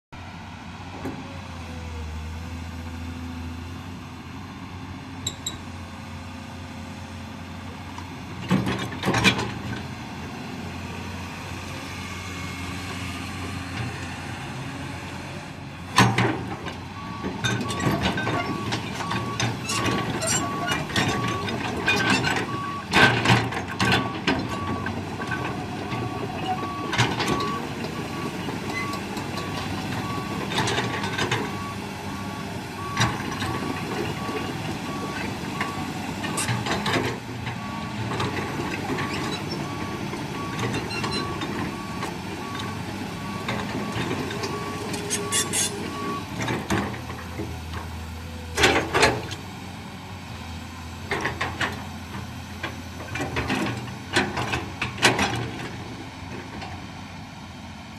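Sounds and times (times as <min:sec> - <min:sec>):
excavator diesel engine running: 0:00.2 - 0:57.9.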